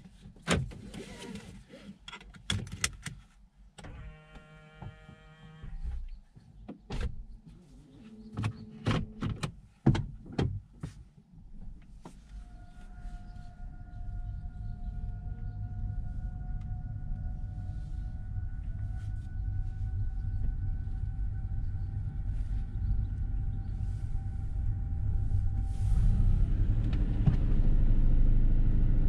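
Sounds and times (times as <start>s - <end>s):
car hum over low rumble: 2.7s - 29.0s.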